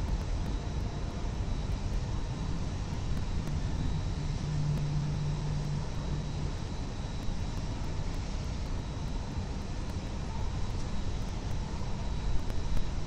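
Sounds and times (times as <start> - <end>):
faint high whine: 0.0 - 13.0
low hum: 0.0 - 13.0
low rumble of city noise: 0.0 - 13.0.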